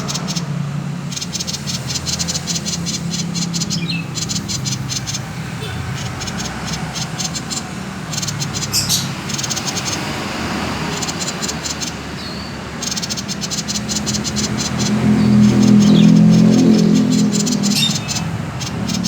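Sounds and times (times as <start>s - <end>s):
bird rattling call: 0.0s - 19.0s.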